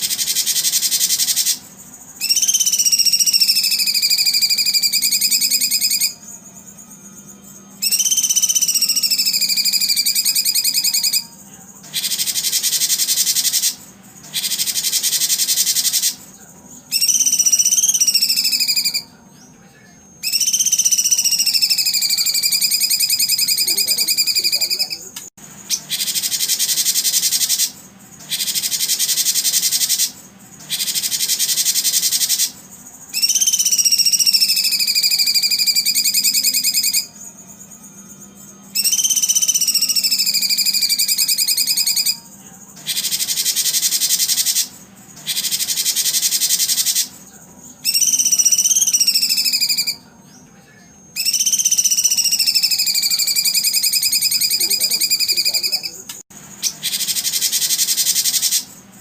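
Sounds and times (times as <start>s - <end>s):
buzzy bird trills: 0.0s - 59.0s
whistled birdsong notes: 0.0s - 59.0s.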